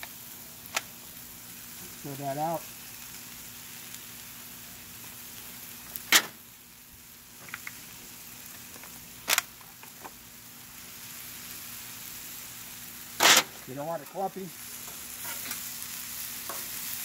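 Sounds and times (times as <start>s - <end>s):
vegetables sizzling on a griddle: 0.0s - 17.0s.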